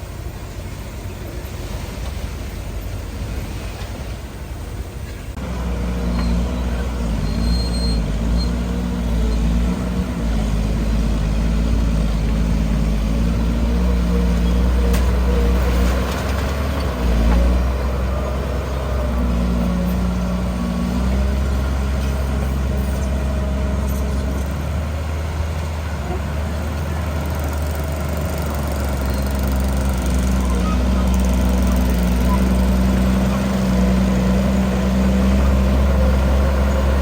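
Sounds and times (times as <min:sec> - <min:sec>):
heavy diesel engine droning: 0:00.0 - 0:37.0.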